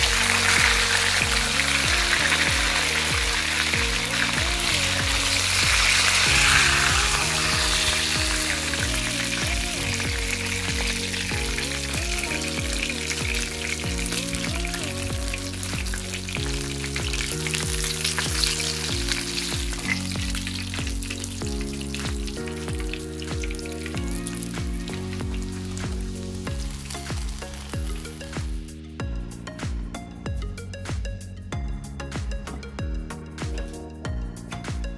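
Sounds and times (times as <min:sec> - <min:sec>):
hot oil sizzling and crackling: 0:00.0 - 0:28.6
background music: 0:00.0 - 0:34.9.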